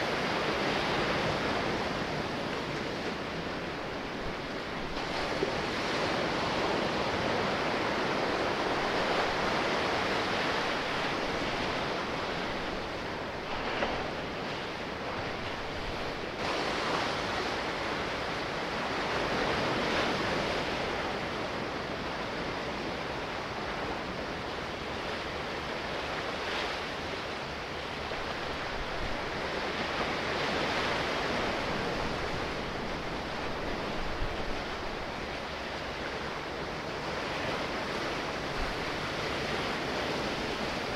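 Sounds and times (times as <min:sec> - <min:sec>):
sea waves washing: 0:00.0 - 0:40.9.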